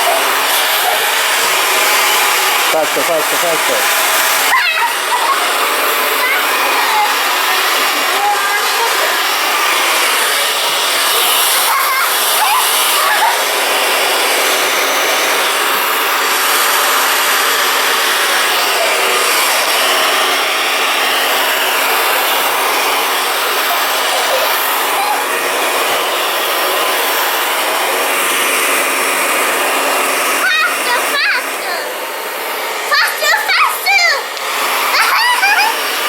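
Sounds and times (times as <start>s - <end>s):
hair dryer running: 0.0s - 36.0s.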